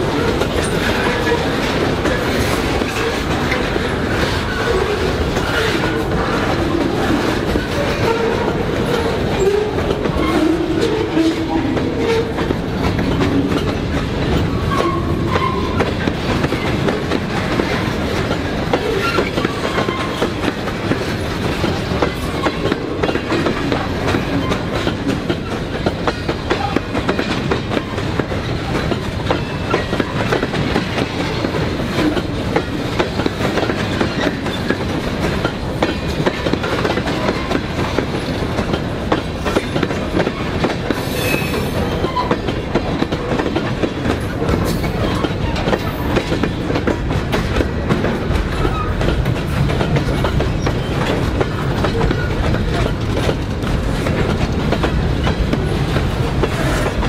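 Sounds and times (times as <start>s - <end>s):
steel wheels rumbling on rail: 0.0s - 57.0s
wheels clicking over rail joints: 0.0s - 57.0s.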